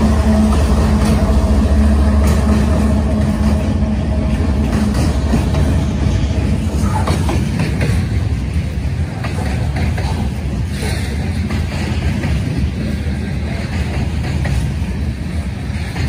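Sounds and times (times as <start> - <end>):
freight cars rumbling past: 0.0 - 14.2
diesel locomotive engine hum: 0.0 - 16.0.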